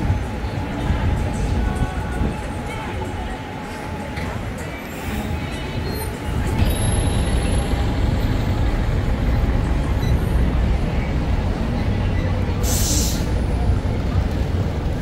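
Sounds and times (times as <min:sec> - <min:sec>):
heavy street traffic rumble: 0:00.0 - 0:15.0.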